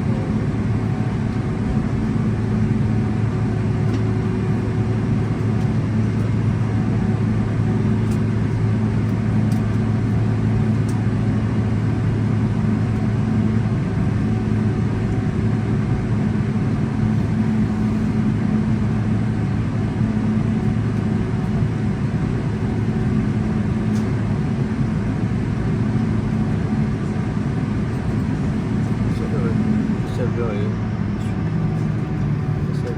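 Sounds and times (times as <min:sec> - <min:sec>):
aircraft cabin drone: 0:00.0 - 0:32.9.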